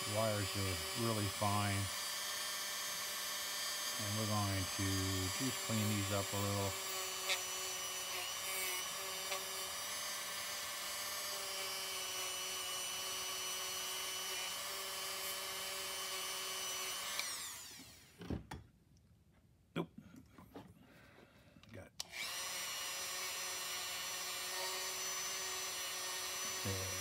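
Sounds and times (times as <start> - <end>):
rotary tool grinding rust: 0.0 - 18.0, 22.1 - 27.0.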